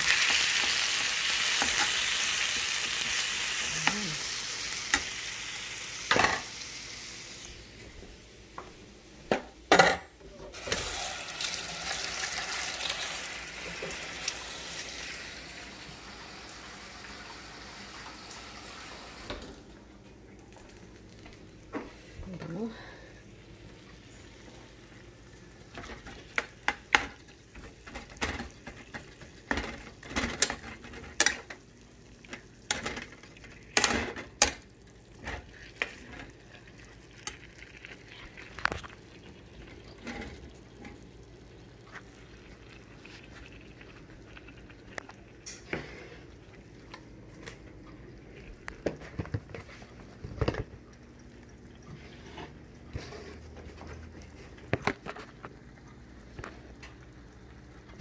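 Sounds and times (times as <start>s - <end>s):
faint frying sizzle: 0.0s - 9.6s, 10.2s - 58.0s.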